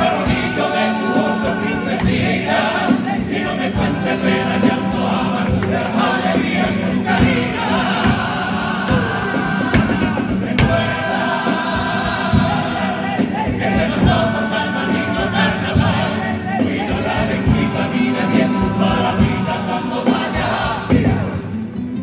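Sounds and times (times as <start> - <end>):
guitars: 0.0 - 22.0
male choir singing in harmony: 0.0 - 22.0.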